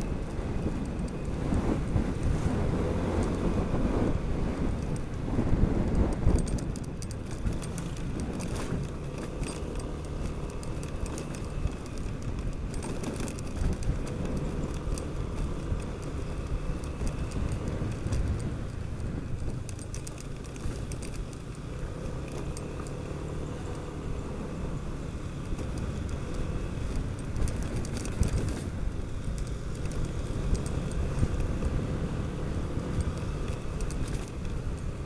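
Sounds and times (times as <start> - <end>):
light rattling clicks: 0.0 - 35.0
scooter engine and road rumble: 0.0 - 35.0
wind noise: 0.0 - 35.0.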